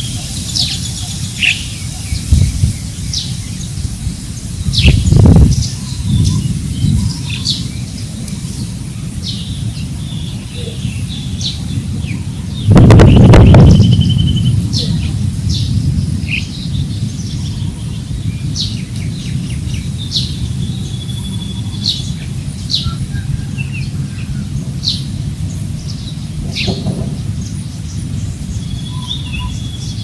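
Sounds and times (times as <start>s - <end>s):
birds chirping: 0.0s - 30.0s
wind rumble on microphone: 0.0s - 30.0s.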